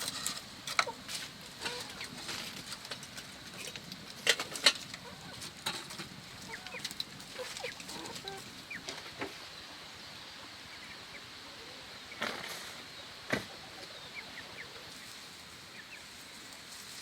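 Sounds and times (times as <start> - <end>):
bird chirps and clucks: 1.6 - 16.2.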